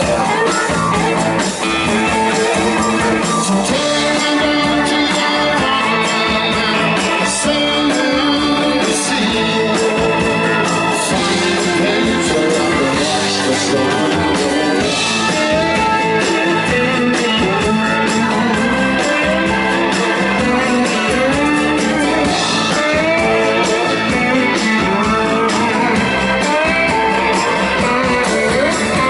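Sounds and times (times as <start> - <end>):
guitar: 0.0 - 29.0
live blues-rock band playing: 0.0 - 29.0.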